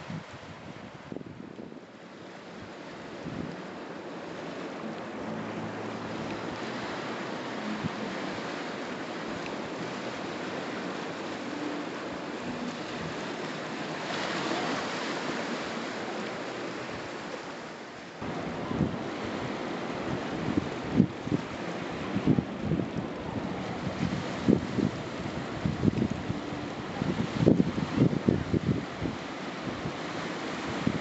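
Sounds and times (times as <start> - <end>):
waves rushing over rocks: 0.0 - 31.0.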